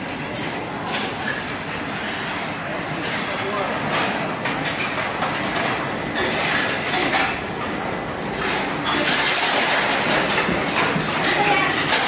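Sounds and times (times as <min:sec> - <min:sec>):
dishes and trays clattering: 0:00.0 - 0:12.0
dishwasher machine noise: 0:00.0 - 0:12.0.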